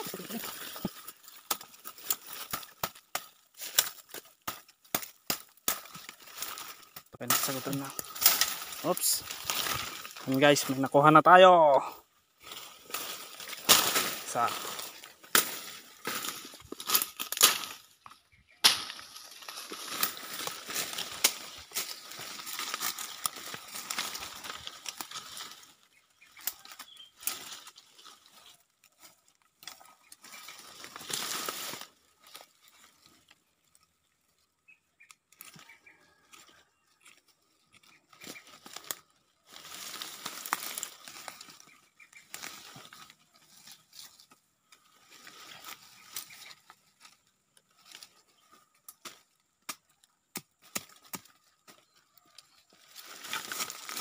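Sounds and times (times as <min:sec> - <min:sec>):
twigs snapping: 0:00.0 - 0:11.1, 0:12.4 - 0:34.4, 0:35.0 - 0:54.0
dry leaves rustling and crackling: 0:00.0 - 0:49.6, 0:50.3 - 0:54.0.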